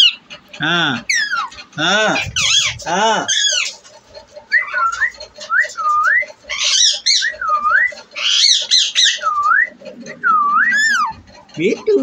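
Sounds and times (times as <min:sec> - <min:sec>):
parakeet screeching: 0:00.0 - 0:00.3, 0:00.9 - 0:11.3.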